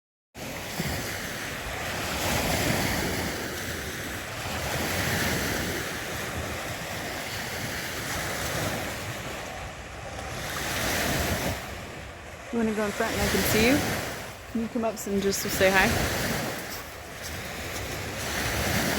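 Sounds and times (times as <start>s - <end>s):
lake waves washing: 0.4s - 18.9s
wind buffeting microphone: 0.7s - 18.9s.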